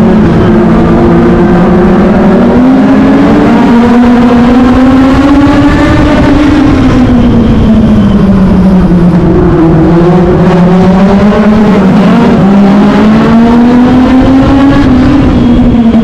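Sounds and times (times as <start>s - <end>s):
race car engine revving loud: 0.0s - 16.0s.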